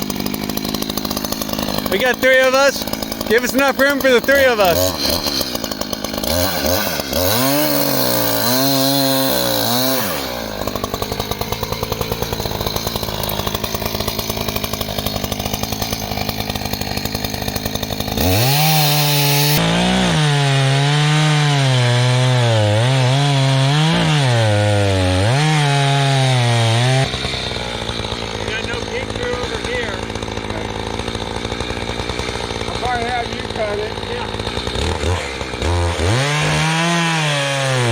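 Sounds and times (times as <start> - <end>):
power saw cutting a tree: 0.0 - 37.9.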